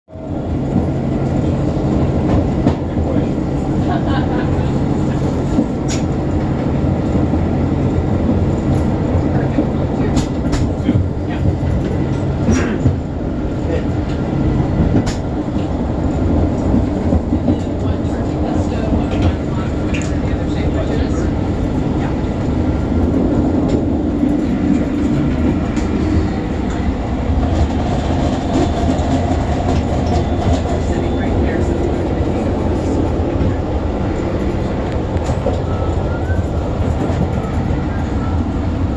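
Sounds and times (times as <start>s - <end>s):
train rumbling on rails: 0.1s - 38.9s.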